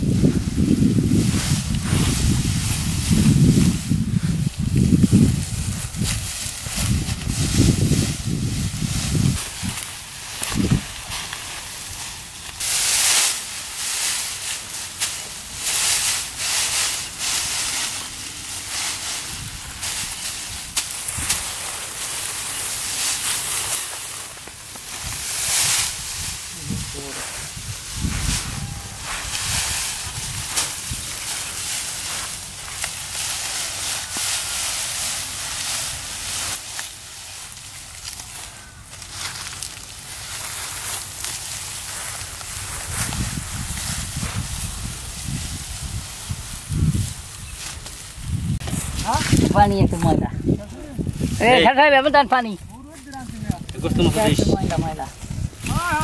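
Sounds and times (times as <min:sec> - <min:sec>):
dry rice stalks rustling: 0:00.0 - 0:56.0.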